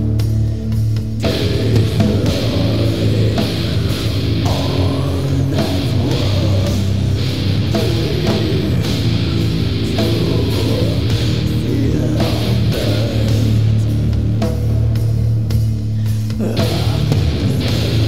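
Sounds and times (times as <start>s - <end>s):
bass guitar: 0.0s - 18.0s
distorted electric guitars: 0.0s - 18.0s
slow heavy drum beat: 0.0s - 18.0s.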